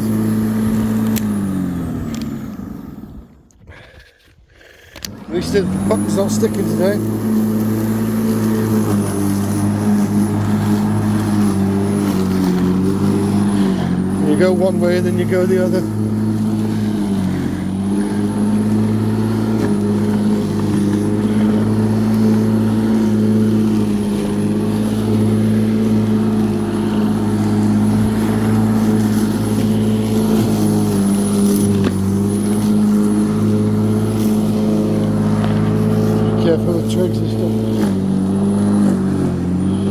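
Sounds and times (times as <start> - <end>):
electric lawnmower running: 0.0 - 4.2, 4.9 - 39.9.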